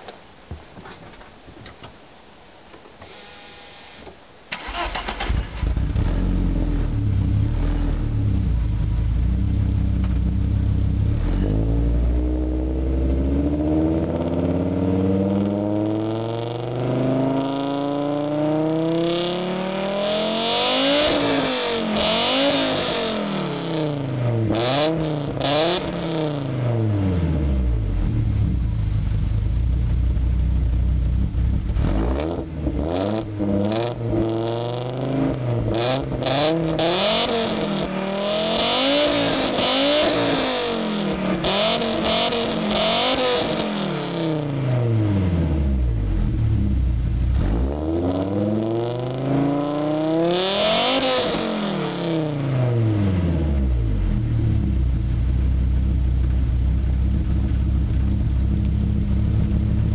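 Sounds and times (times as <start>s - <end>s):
car engine idling and revving: 4.6s - 59.9s.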